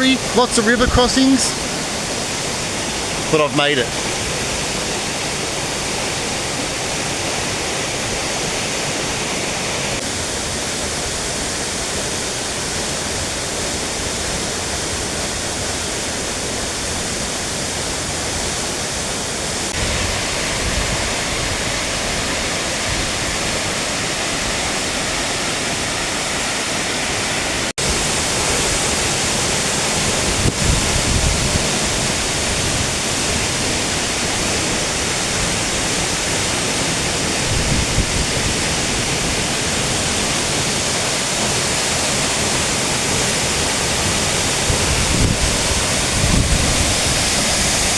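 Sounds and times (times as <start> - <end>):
waterfall roaring: 0.0 - 47.9.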